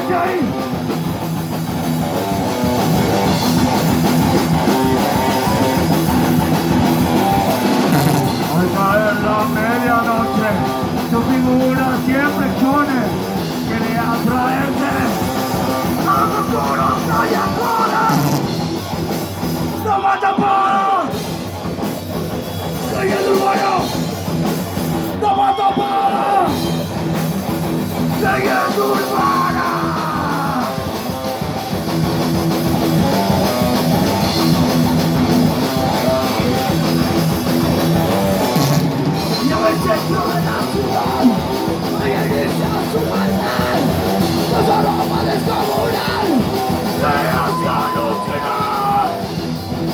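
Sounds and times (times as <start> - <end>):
bass guitar: 0.0 - 49.9
distorted electric guitars: 0.0 - 49.9
drums: 0.0 - 49.9.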